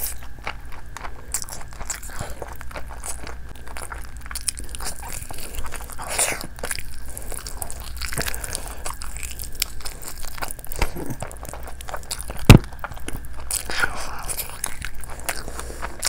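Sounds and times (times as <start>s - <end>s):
person chewing wet bites: 0.0s - 16.0s.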